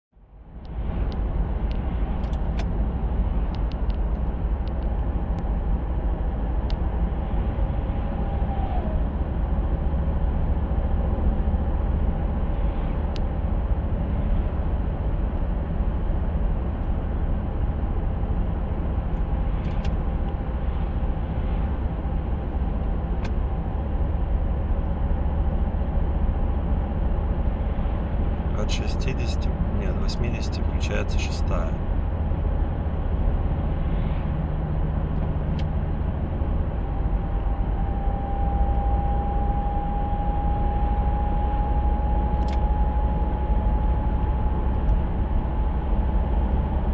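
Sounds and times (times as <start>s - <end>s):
car driving low rumble: 0.2s - 46.9s.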